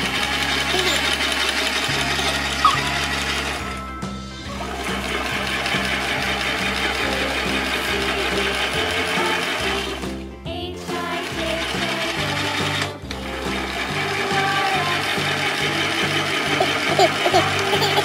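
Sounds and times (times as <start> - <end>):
toy washing machine motor whirring: 0.0 - 10.2, 10.9 - 18.0.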